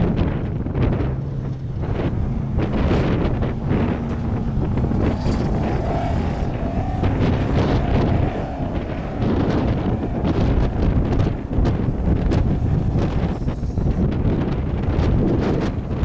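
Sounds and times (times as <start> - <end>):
vehicle engine and exhaust: 0.0 - 16.0
wind buffeting microphone: 0.0 - 16.0.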